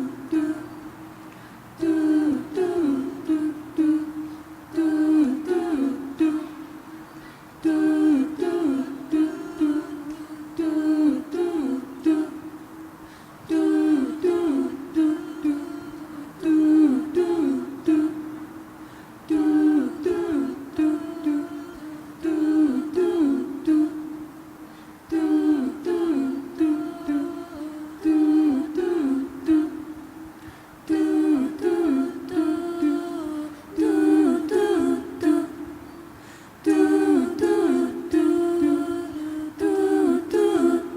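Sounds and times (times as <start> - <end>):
steady hummed tone: 0.0 - 40.9
voices singing without words: 0.0 - 40.9.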